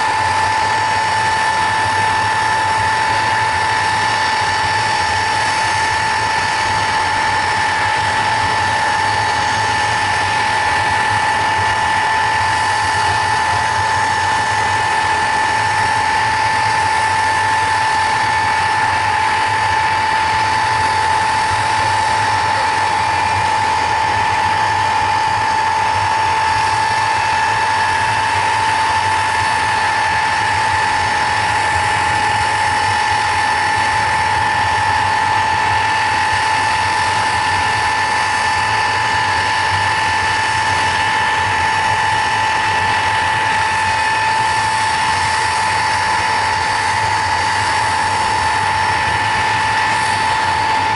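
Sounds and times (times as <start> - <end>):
jet turbines whining: 0.0 - 50.9.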